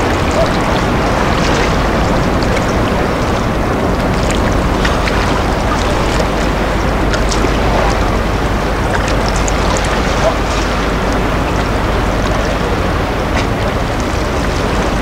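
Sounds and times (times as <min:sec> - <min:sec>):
low hum: 0:00.0 - 0:15.0
surf: 0:00.0 - 0:15.0
wind: 0:00.0 - 0:15.0.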